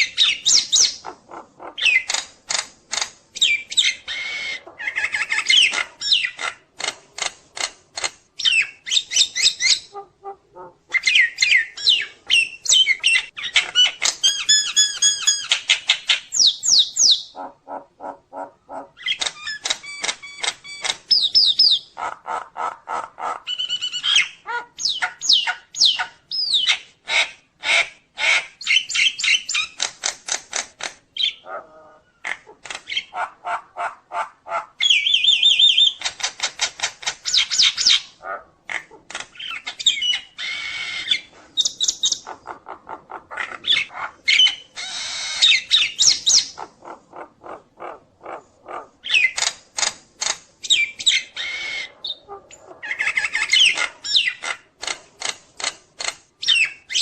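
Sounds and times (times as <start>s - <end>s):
myna bird singing: 0.0s - 6.6s, 8.4s - 22.1s, 22.9s - 26.9s, 28.3s - 29.9s, 31.1s - 33.3s, 34.8s - 49.6s, 50.6s - 54.7s, 56.4s - 57.0s.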